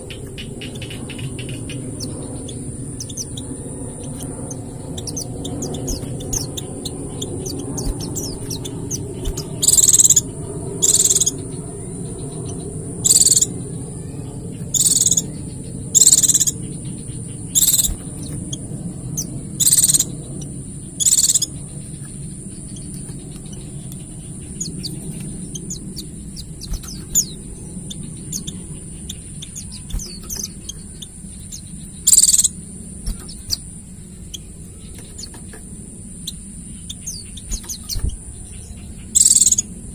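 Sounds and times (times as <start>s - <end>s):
birds twittering in high chirps: 0.0s - 39.9s
loud bursts of birdsong: 0.0s - 39.9s
low rumble: 0.0s - 39.9s
steady high-pitched hiss: 0.0s - 39.9s.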